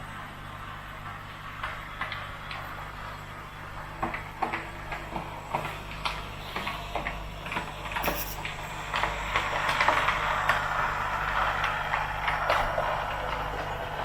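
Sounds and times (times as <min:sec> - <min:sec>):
model train wheels and motor running: 0:00.1 - 0:14.0.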